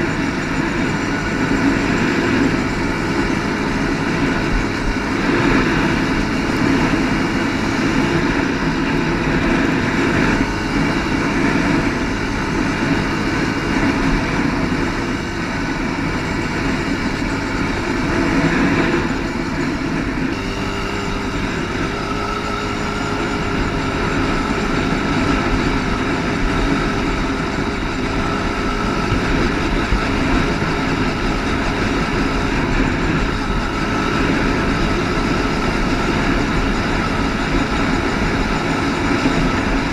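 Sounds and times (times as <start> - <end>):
quad engine running: 0.0 - 39.9.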